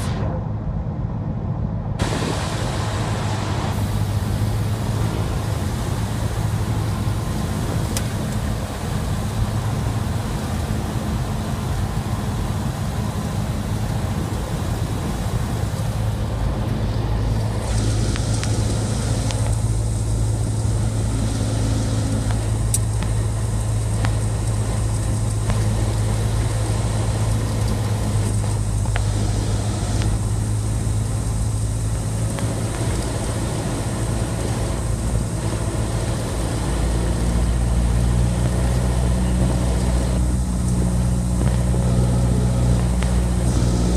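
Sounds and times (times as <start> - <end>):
plane engine and propeller droning: 0.0 - 43.9.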